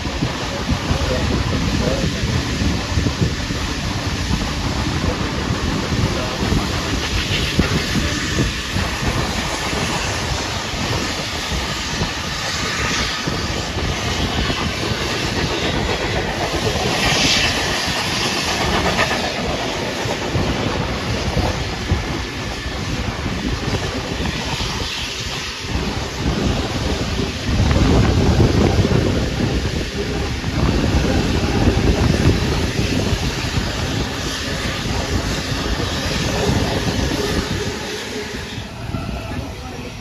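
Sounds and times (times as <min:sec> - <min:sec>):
rush of wind and hiss: 0:00.0 - 0:40.0.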